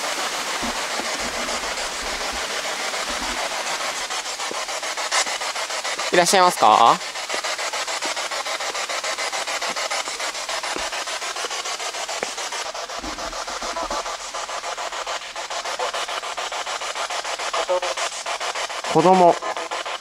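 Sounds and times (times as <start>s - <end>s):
stuttering radio static: 0.0s - 20.0s.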